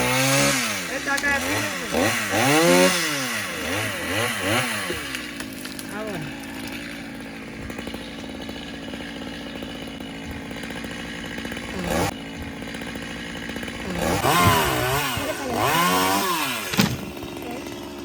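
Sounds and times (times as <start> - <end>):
chainsaw engine idling and revving: 0.0 - 18.0.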